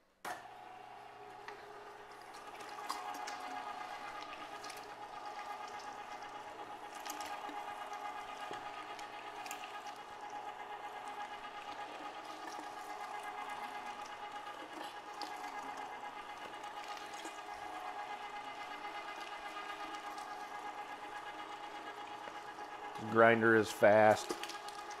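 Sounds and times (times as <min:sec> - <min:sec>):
electric meat grinder running: 0:00.3 - 0:25.0.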